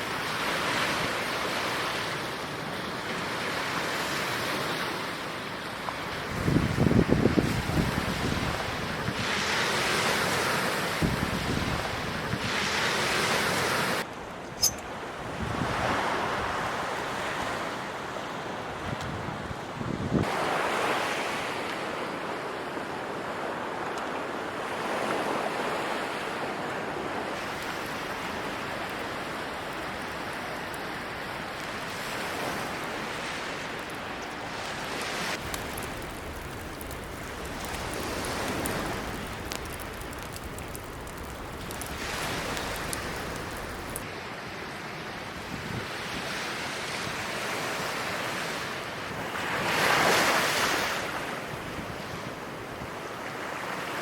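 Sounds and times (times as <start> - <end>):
sea waves breaking on shore: 0.0 - 14.1, 14.9 - 44.1, 45.9 - 54.0.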